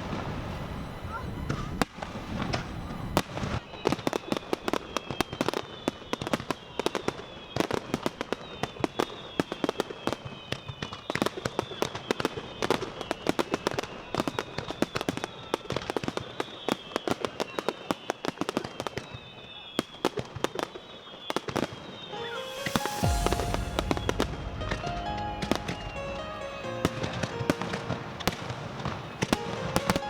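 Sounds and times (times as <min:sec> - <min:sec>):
fireworks popping and crackling: 0:00.0 - 0:30.0
high whistling of fireworks: 0:00.0 - 0:30.0.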